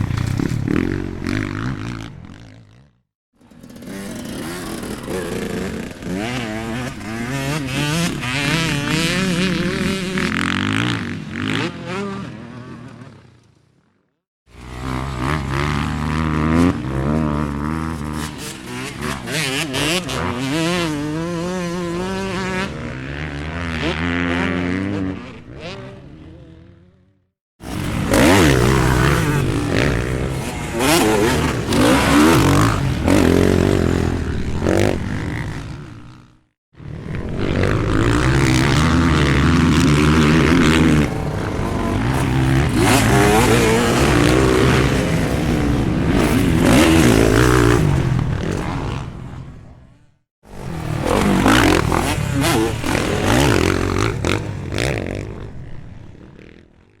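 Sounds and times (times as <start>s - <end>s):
off-road motorcycle engines revving: 0.0s - 57.0s.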